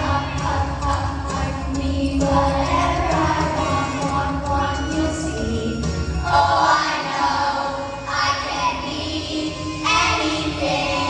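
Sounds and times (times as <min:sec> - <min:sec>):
children singing together: 0:00.0 - 0:11.0
musical accompaniment: 0:00.0 - 0:11.0.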